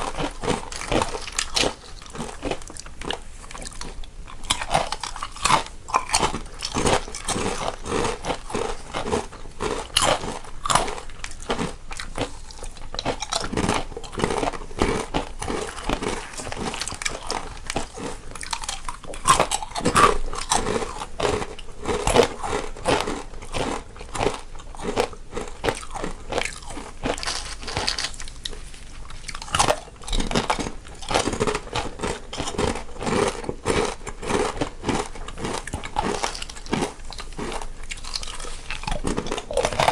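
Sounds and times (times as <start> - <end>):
people chewing crunchy snacks: 0.0 - 39.9.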